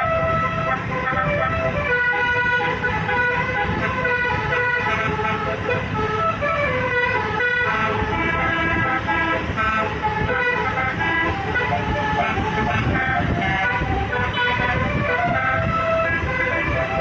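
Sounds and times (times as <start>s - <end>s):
low engine rumble: 0.0s - 17.0s
musical bus horn playing tune: 0.0s - 17.0s.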